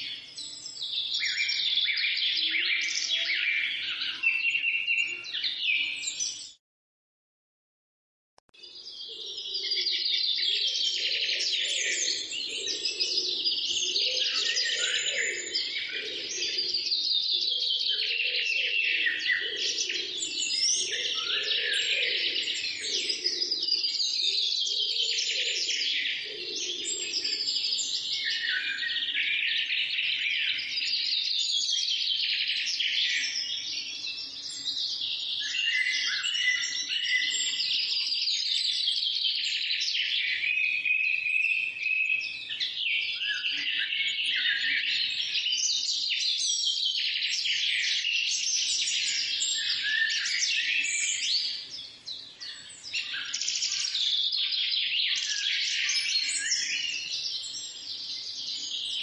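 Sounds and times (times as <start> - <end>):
songbirds chorus: 0.0 - 6.6, 8.6 - 59.0.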